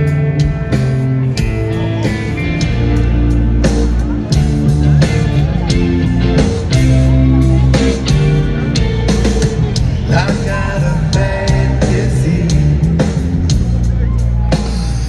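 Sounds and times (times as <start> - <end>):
drum kit steady beat: 0.0 - 15.0
electric bass: 0.0 - 15.0
electric guitar: 0.0 - 15.0.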